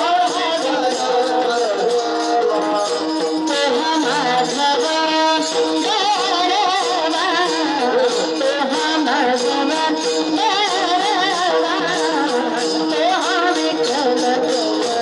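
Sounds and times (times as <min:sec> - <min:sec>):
small jingling percussion: 0:00.0 - 0:15.0
wordless sung melody: 0:00.0 - 0:15.0.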